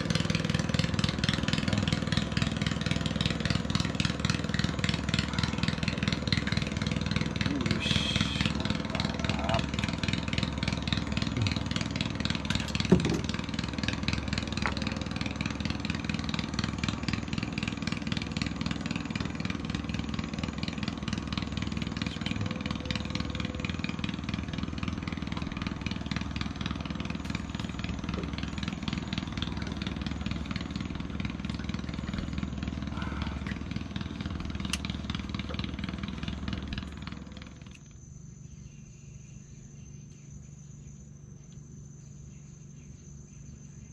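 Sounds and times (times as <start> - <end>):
small boat engine running: 0.0 - 43.9
insects chirping: 0.1 - 43.9.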